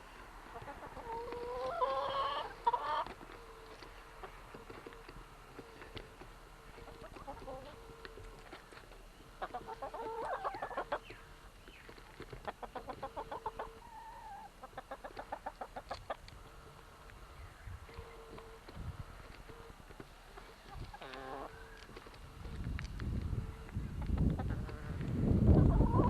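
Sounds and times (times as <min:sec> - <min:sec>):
faint steady hum: 0:00.0 - 0:26.0
hens clucking: 0:00.4 - 0:26.0.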